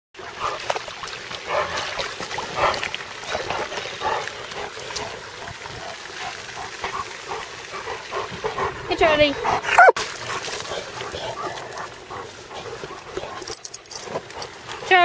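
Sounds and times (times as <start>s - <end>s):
dogs splashing in water: 0.2s - 15.0s
dogs' small noises: 0.2s - 15.0s.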